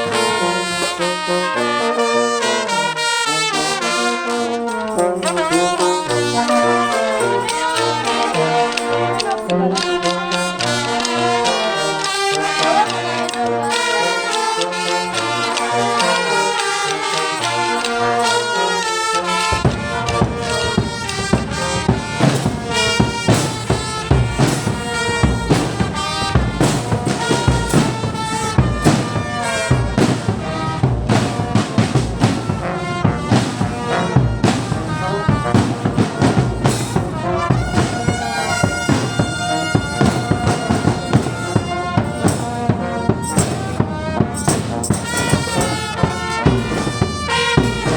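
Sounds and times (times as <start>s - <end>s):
drums steady beat: 0.0s - 2.4s, 3.1s - 47.9s
brass band playing: 0.0s - 47.9s.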